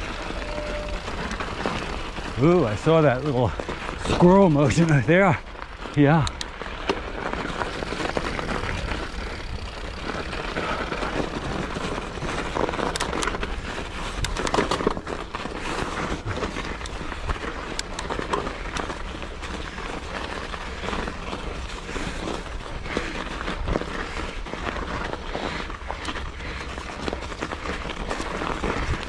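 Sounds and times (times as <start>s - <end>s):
bike tyres rolling on snow: 0.0s - 29.0s
small clicks and rattles: 0.0s - 29.0s.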